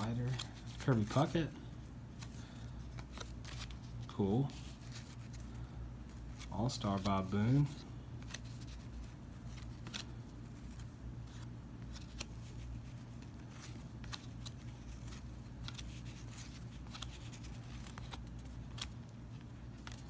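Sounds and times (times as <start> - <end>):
cards being flipped through: 0.0 - 1.5, 2.1 - 20.0
low steady hum: 0.0 - 20.0.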